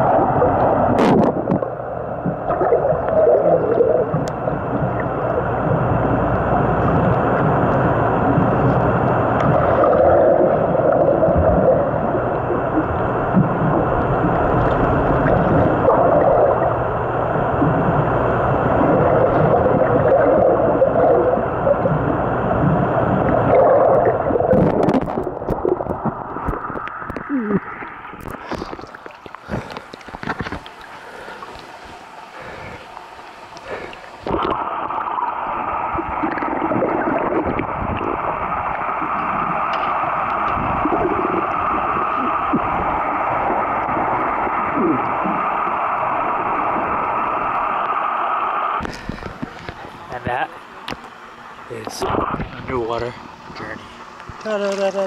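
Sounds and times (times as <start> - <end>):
underwater gurgling wash: 0.0 - 54.4.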